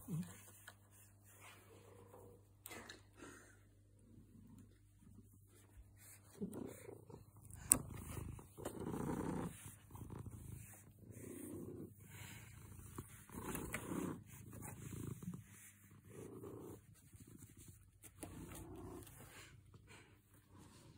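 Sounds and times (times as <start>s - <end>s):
cat purring: 0.0s - 2.4s, 4.0s - 20.9s.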